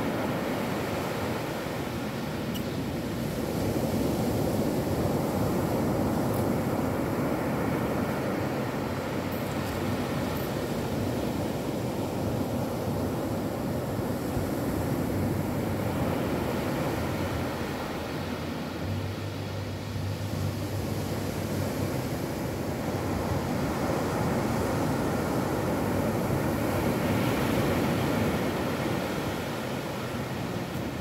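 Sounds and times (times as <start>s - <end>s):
ocean surf breaking on sand: 0.0s - 31.0s.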